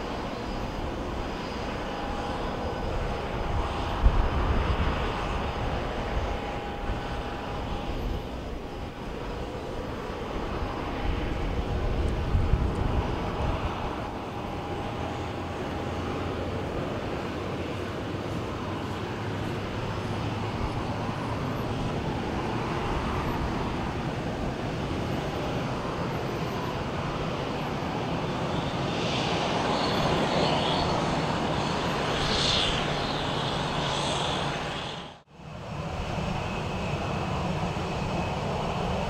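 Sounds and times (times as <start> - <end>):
jet engines rumbling: 0.0 - 39.0.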